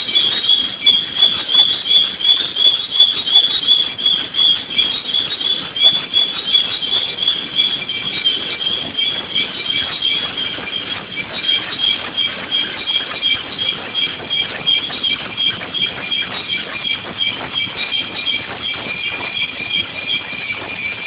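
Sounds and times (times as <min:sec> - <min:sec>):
steady machining noise: 0:00.0 - 0:21.0.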